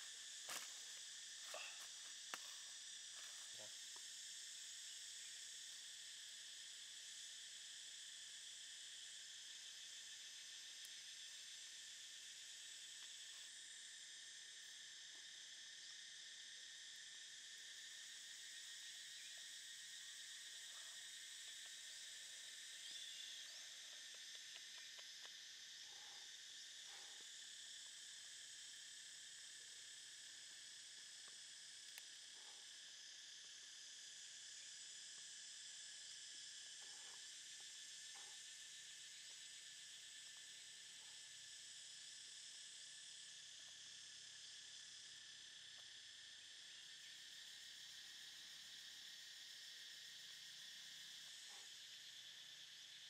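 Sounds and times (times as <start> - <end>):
faint insect chorus: 0.0 - 53.0.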